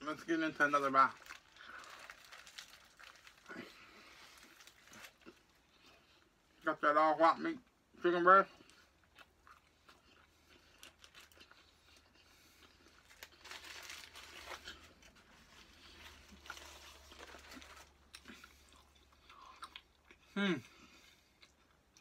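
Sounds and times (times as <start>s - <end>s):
crunching and chewing crispy food: 0.5s - 6.6s, 8.0s - 22.0s.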